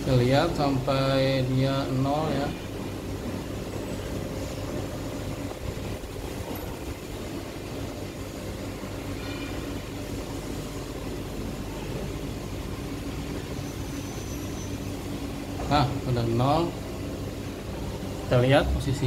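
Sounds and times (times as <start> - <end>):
machine humming and rumbling: 0.0 - 19.0.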